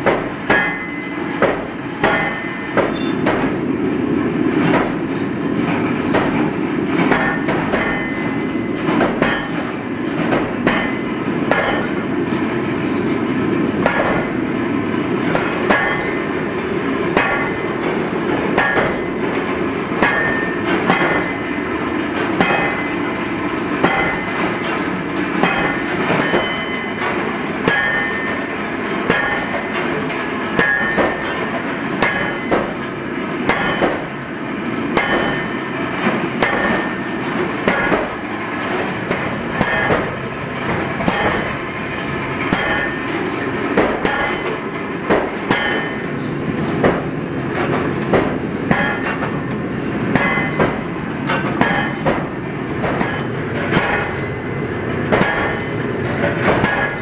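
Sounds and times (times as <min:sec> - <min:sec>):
metal clanks and knocks: 0:00.0 - 0:03.8, 0:04.5 - 0:34.3, 0:34.9 - 0:57.0.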